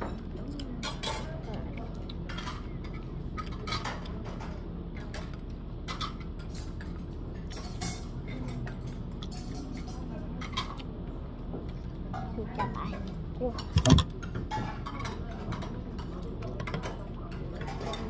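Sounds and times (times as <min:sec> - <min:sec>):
utensils clinking against dishes: 0:00.0 - 0:10.8, 0:12.1 - 0:18.0.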